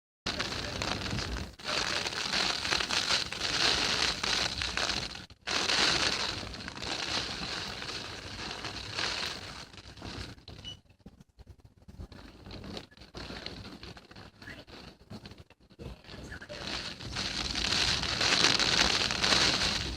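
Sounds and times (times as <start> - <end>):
wind and rain through window: 0.3 - 19.9.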